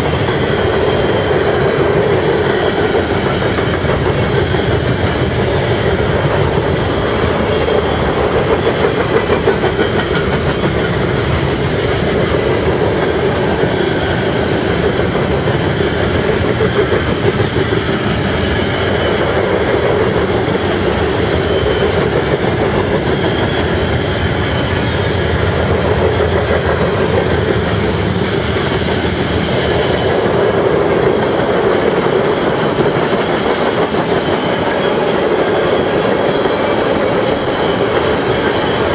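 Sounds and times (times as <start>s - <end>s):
high wheel squeal: 0.0s - 38.9s
train wheels rumbling on rails: 0.0s - 38.9s.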